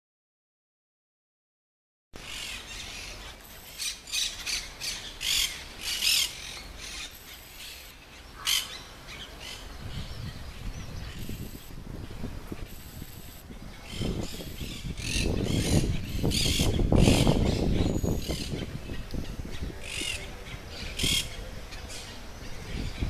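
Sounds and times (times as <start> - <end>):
birds calling harshly: 2.2 - 23.0
outdoor background noise: 2.2 - 23.0.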